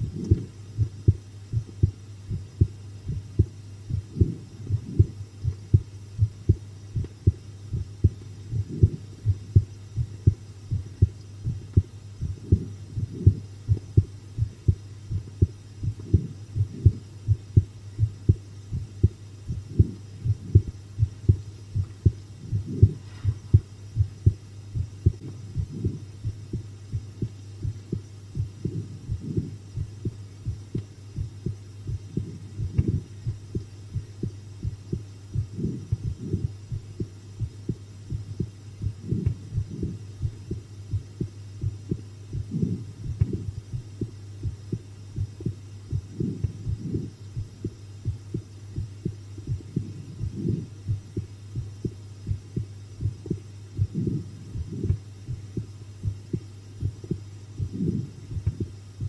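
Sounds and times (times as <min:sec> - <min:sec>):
constant low hum: 0:00.0 - 0:59.0
heartbeat thumps: 0:00.0 - 0:59.0.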